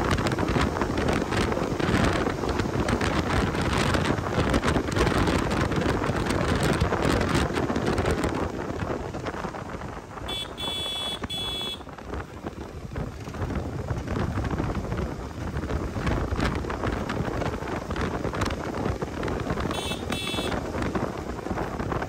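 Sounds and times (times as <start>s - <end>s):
motorcycle engine rumble: 0.0s - 22.0s
wind buffeting microphone: 0.0s - 22.0s.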